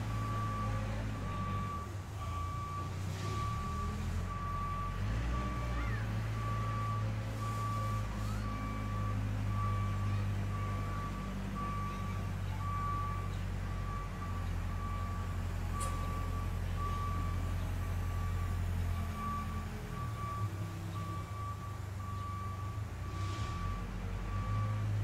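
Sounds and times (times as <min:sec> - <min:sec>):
vehicle engine running: 0:00.0 - 0:25.0
reversing alarm beeping: 0:00.1 - 0:25.0.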